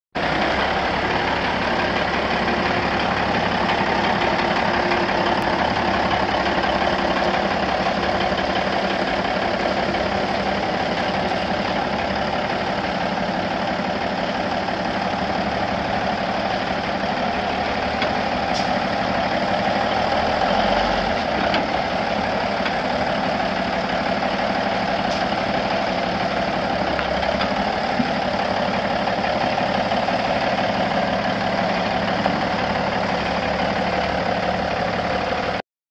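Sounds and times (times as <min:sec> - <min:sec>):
diesel truck engine idling: 0:00.2 - 0:35.6.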